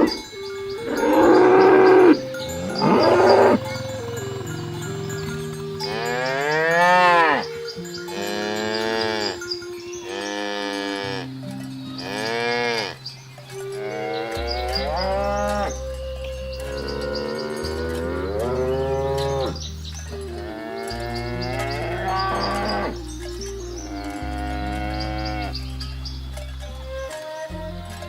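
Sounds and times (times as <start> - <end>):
cows mooing: 0.0 - 26.2.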